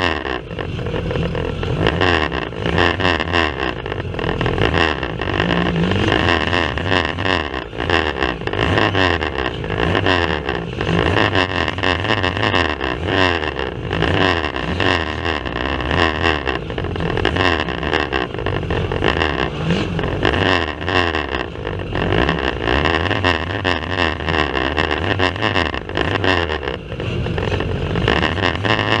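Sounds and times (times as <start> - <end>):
race car engines revving: 0.0 - 29.0.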